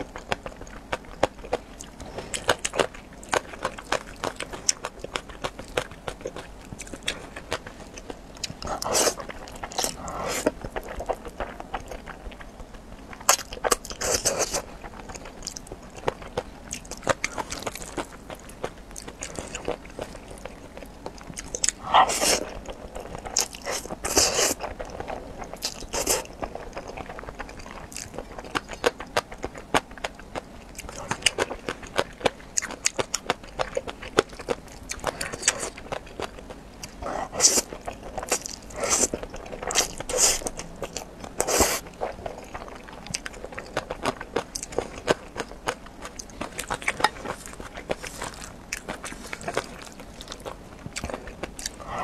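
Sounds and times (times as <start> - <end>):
chewing with mouth clicks: 0.0 - 52.0.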